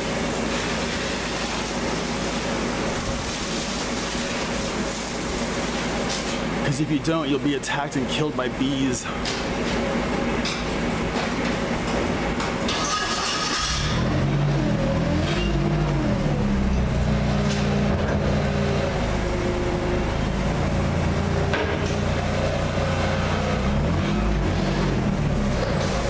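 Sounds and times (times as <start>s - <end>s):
machinery running: 0.0s - 26.0s.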